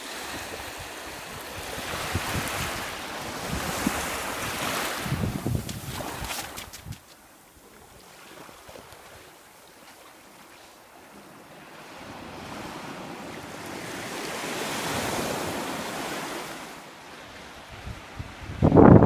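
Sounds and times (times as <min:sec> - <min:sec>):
small waves breaking on shore: 0:00.0 - 0:18.4.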